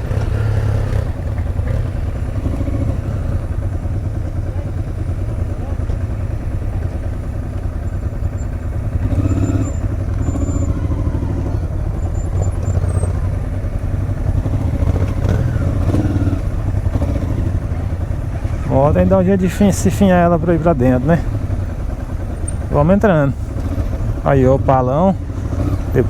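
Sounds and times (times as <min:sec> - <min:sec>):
motorcycle engine rumbling: 0:00.0 - 0:26.0
passing traffic: 0:00.0 - 0:26.0.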